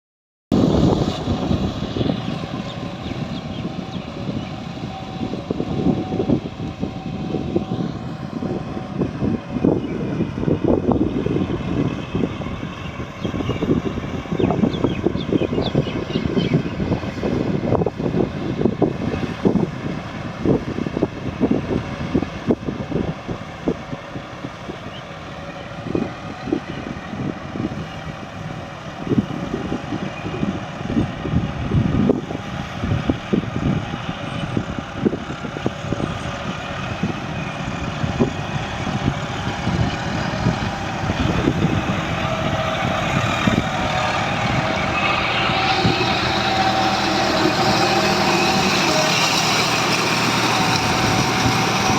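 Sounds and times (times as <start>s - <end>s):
tractor diesel engine: 0.5s - 51.9s.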